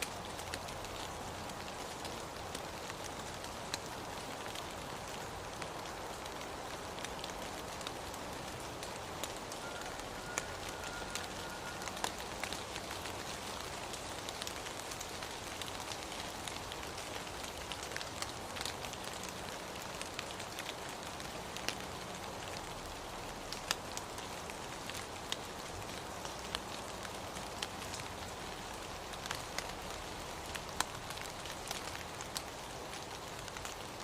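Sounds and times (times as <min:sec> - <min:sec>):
raindrops ticking close by: 0:00.0 - 0:34.0
steady rain hiss: 0:00.0 - 0:34.0.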